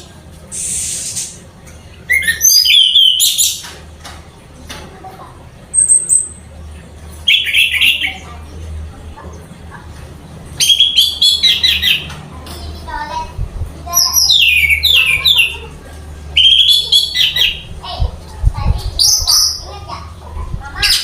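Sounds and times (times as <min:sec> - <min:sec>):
steady low hum: 0:03.2 - 0:21.0.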